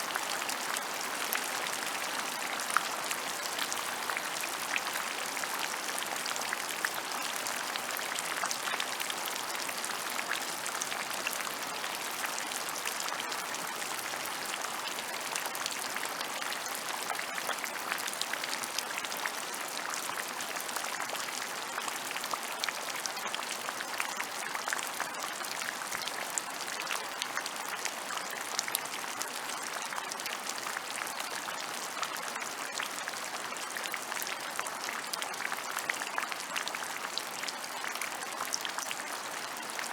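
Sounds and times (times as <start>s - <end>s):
rain falling on ground: 0.0s - 39.9s.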